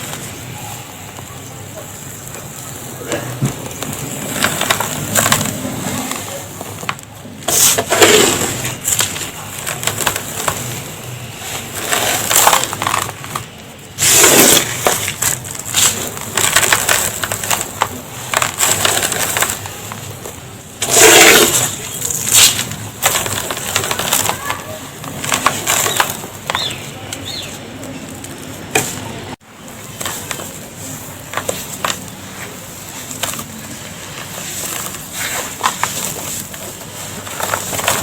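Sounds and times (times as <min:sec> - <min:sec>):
dry dust pouring and crunching: 0:00.0 - 0:38.0.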